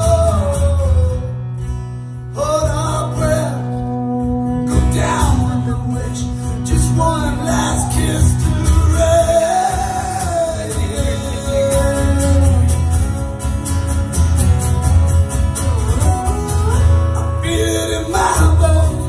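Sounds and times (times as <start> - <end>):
man singing: 0.0 - 1.6, 2.2 - 13.0, 16.0 - 19.0
strummed acoustic guitar: 0.0 - 19.0.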